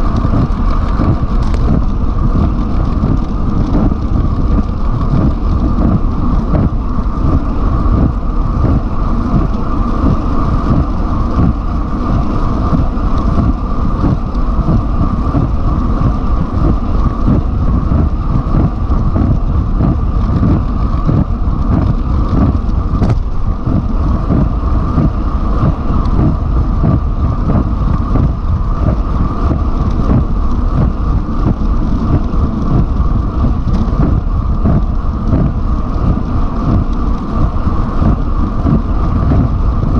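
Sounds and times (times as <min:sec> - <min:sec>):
steady hum: 0:00.0 - 0:39.9
wind buffeting microphone: 0:00.0 - 0:39.9.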